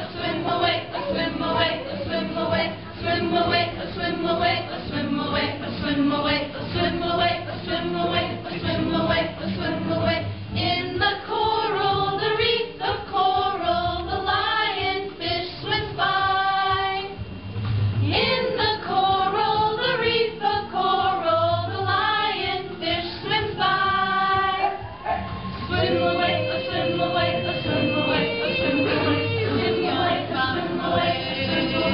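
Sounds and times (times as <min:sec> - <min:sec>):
group singing with women prominent: 0:00.0 - 0:17.3, 0:18.0 - 0:31.9.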